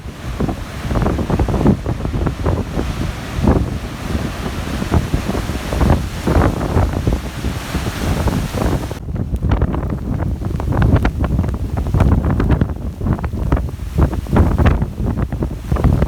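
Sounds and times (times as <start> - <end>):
strong gusty wind buffeting microphone: 0.0 - 16.0.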